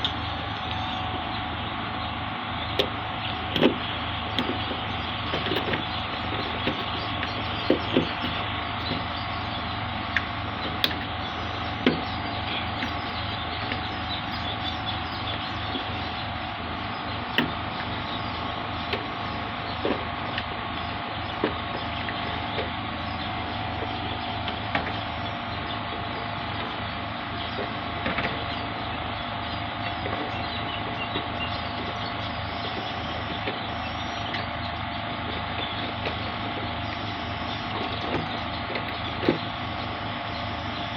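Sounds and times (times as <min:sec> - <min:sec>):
held tones: 0:00.0 - 0:40.9
mechanical hum: 0:00.0 - 0:40.9.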